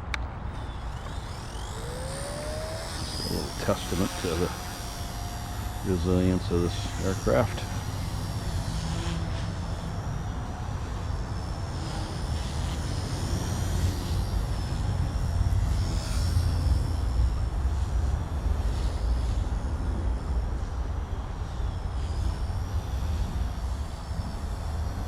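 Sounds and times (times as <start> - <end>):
toy helicopter whine: 0.0 - 25.0.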